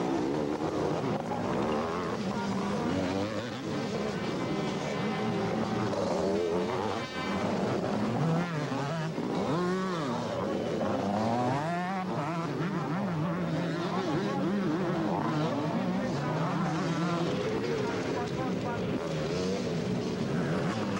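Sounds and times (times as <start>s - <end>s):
motocross bikes revving: 0.0s - 20.9s.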